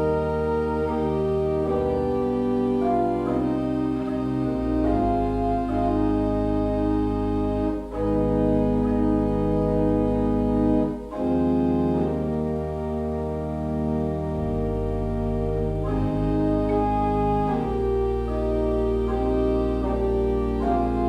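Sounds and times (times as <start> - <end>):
organ playing sustained chords: 0.0 - 21.0.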